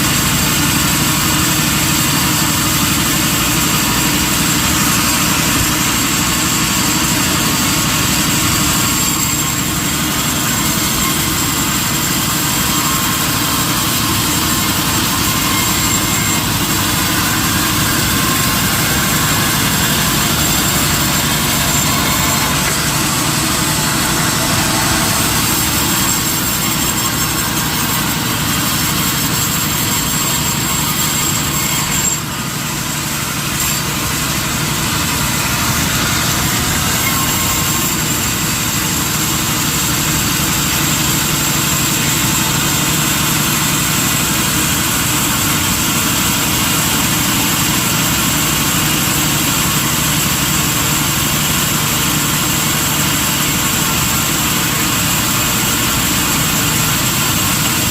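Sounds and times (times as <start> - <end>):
high mechanical whine: 0.0 - 57.9
sawmill machinery drone: 0.0 - 57.9.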